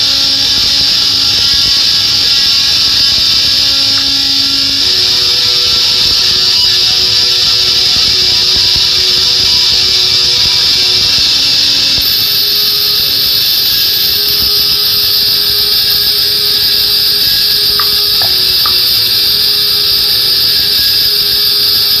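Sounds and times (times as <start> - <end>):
high-pitched insect: 0.0 - 22.0
night insects chirring: 0.0 - 22.0.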